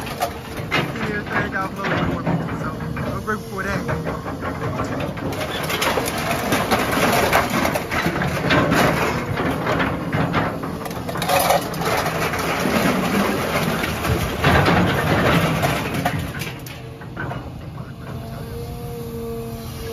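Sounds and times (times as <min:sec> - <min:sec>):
scrap metal clanks and scrapes: 0:00.0 - 0:18.4
excavator engine running: 0:00.0 - 0:19.9.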